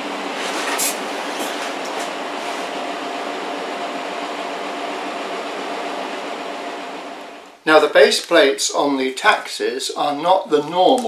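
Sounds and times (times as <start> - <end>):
mechanical hum and hiss: 0.0 - 11.0.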